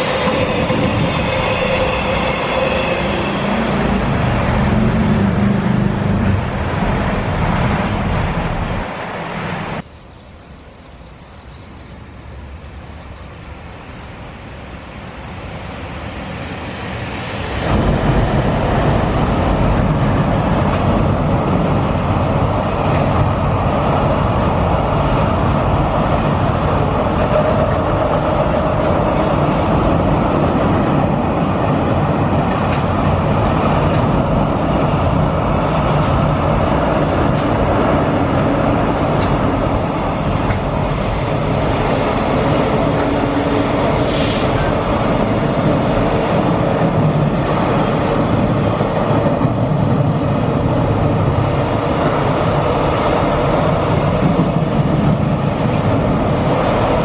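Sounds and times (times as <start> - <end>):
train approaching and passing: 0.0 - 57.0
train rolling noise: 0.0 - 57.0.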